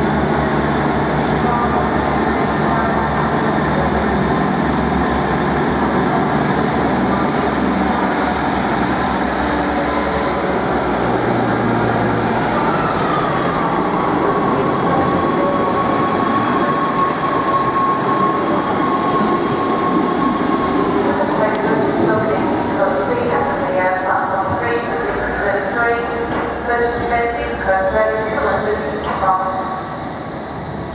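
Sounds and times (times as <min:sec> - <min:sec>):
diesel train engines running: 0:00.0 - 0:30.9.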